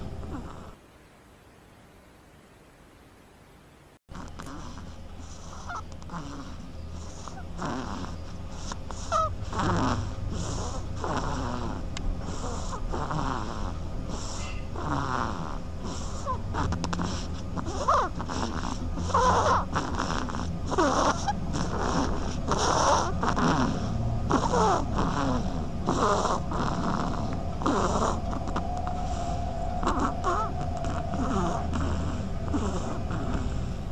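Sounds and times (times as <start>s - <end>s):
duckling snoring: 0.0s - 0.8s, 4.1s - 33.9s
steady low hum: 0.0s - 33.9s.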